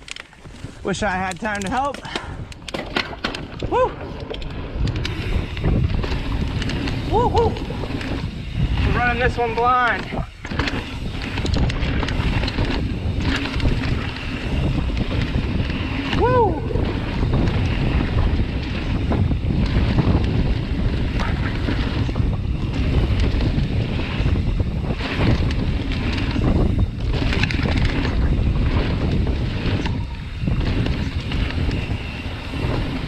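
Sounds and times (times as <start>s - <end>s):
bike clicks and knocks: 0.0s - 33.0s
bike tyre noise: 0.0s - 33.0s
wind buffeting microphone: 0.0s - 33.0s.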